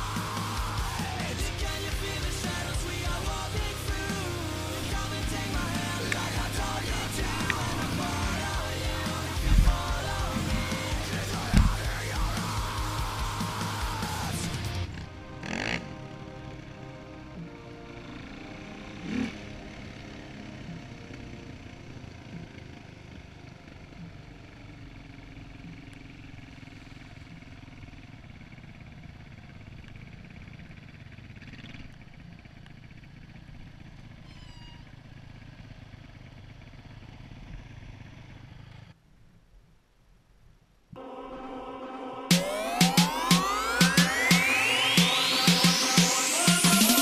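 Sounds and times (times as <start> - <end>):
quad bike engine running: 0.0 - 16.7, 17.4 - 39.0
motocross bike engine: 0.0 - 39.0, 41.0 - 47.0.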